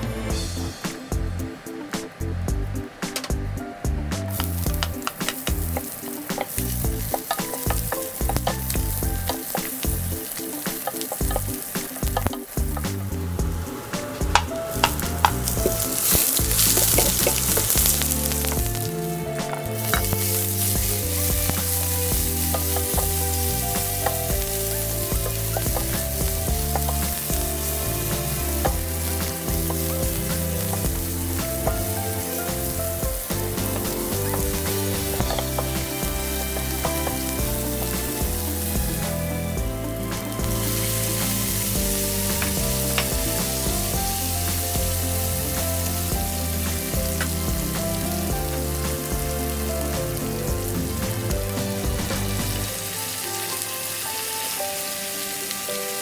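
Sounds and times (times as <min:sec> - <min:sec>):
vegetables sizzling in hot oil: 0:04.2 - 0:56.0.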